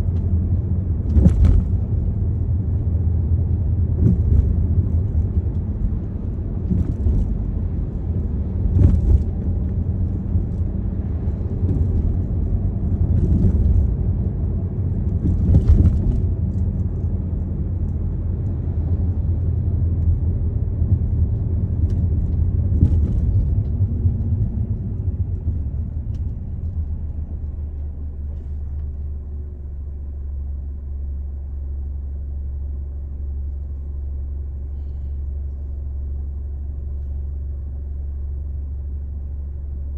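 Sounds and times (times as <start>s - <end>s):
car road rumble inside cabin: 0.0s - 39.9s.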